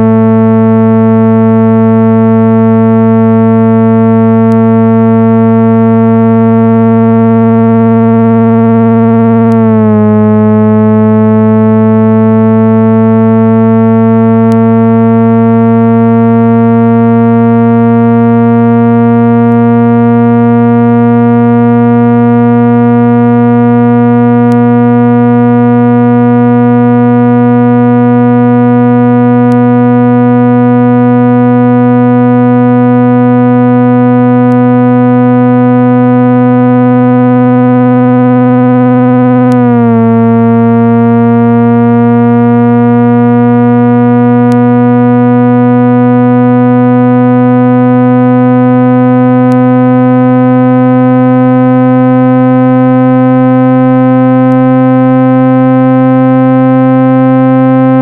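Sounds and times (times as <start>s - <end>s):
buzzy synthesized low tone: 0.0s - 58.0s.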